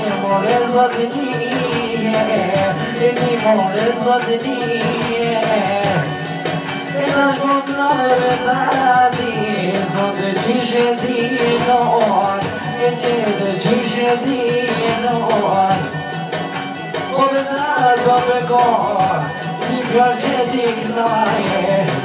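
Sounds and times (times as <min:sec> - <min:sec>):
drum beat: 0:00.0 - 0:22.0
person singing into a microphone: 0:00.0 - 0:22.0.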